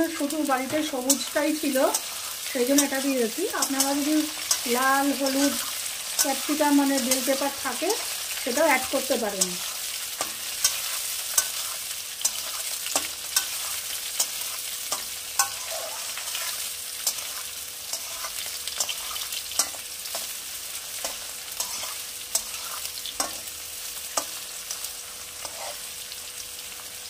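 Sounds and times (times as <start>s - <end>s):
vegetables sizzling in oil: 0.0s - 27.0s
metal spatula scraping a pan: 0.5s - 26.0s.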